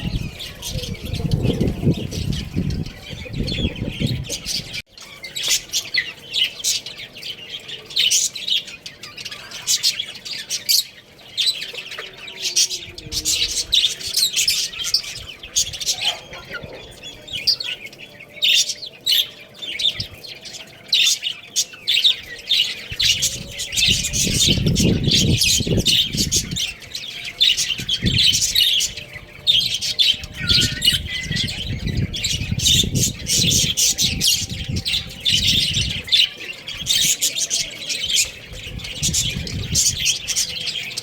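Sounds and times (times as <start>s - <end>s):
baby chicks peeping: 0.0s - 41.0s.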